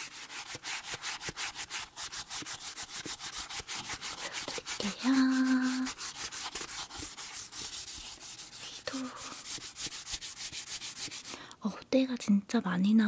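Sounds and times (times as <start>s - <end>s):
scrub towel rubbing strokes: 0.0s - 11.4s.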